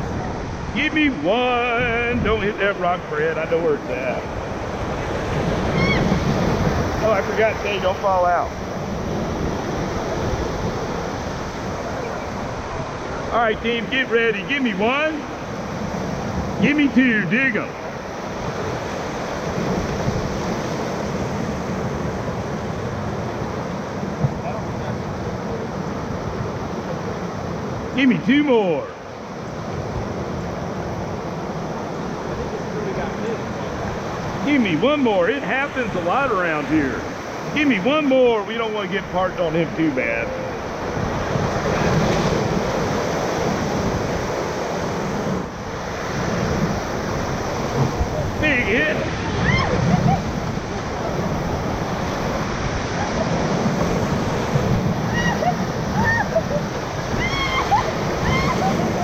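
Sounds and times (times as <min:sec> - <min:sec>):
whitewater rapids roaring: 0:00.0 - 0:59.0.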